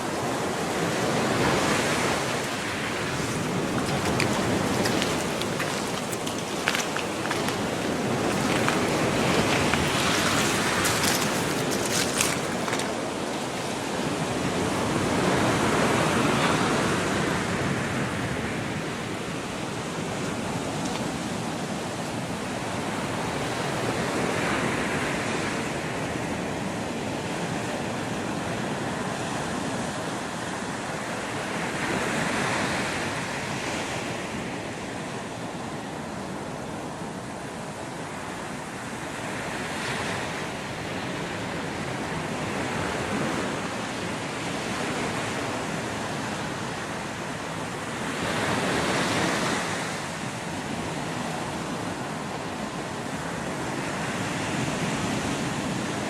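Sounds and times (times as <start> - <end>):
small waves breaking on sand: 0.0 - 56.0.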